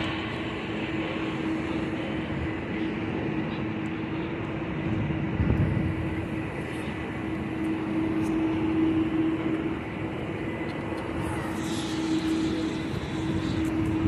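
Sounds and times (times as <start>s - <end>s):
constant low hum: 0.0s - 14.0s
distant jet engines roaring: 0.0s - 14.0s.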